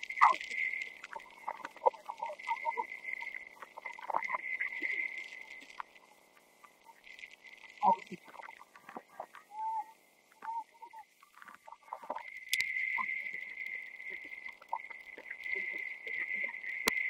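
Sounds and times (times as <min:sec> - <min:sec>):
faint clicks: 0:00.0 - 0:17.0
steady thin hiss: 0:00.0 - 0:17.0.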